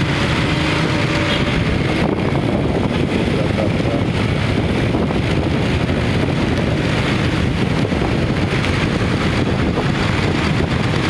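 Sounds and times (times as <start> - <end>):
road traffic rumble: 0.0 - 11.0
wind buffeting microphone: 0.0 - 11.0.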